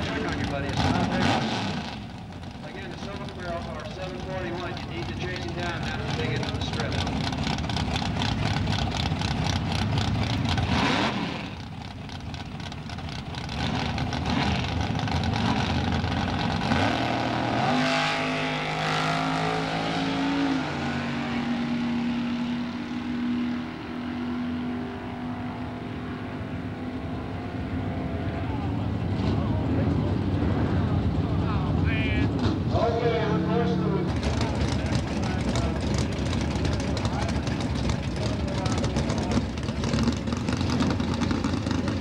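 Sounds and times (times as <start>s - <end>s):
drag racing car engines: 0.0s - 42.0s.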